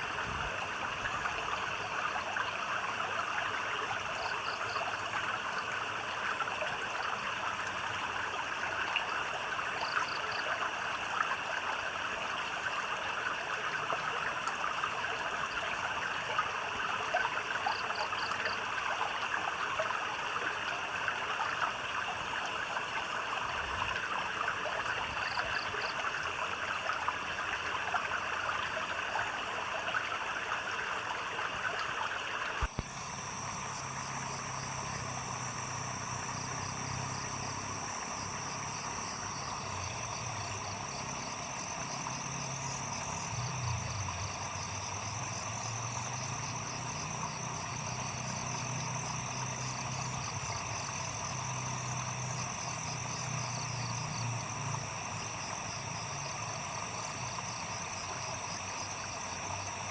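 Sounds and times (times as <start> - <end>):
high drone of insects: 0.0 - 59.9
stream trickling and babbling: 0.0 - 59.9.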